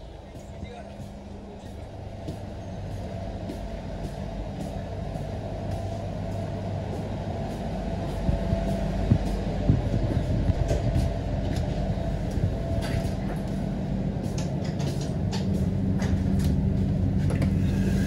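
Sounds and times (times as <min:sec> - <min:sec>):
train rumble inside coach: 0:00.0 - 0:18.0.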